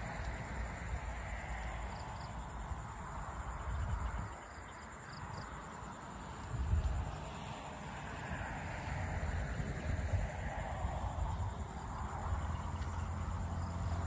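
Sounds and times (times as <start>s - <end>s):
high drone of insects: 0.0s - 14.0s
wind rumble on microphone: 0.0s - 14.0s.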